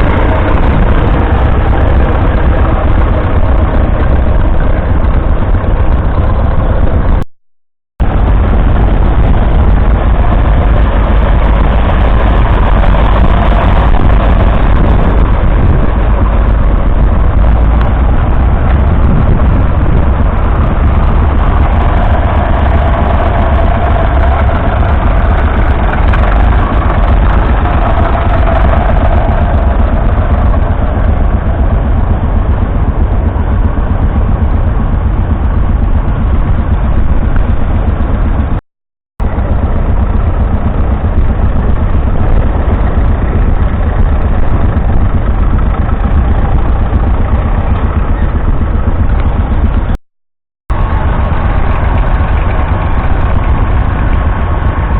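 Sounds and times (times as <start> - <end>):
tractor engine running: 0.0 - 7.3, 8.0 - 38.6, 39.2 - 50.0, 50.7 - 54.9.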